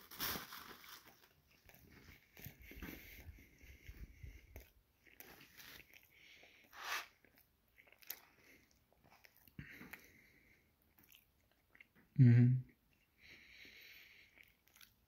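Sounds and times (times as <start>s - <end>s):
person chewing food: 1.0s - 12.1s, 12.8s - 15.0s.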